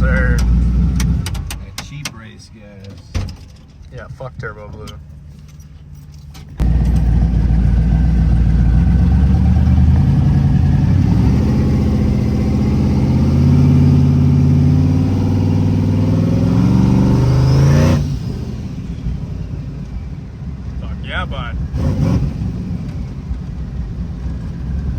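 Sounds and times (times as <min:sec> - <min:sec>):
car engine at full throttle: 0:00.0 - 0:02.1, 0:06.6 - 0:24.9.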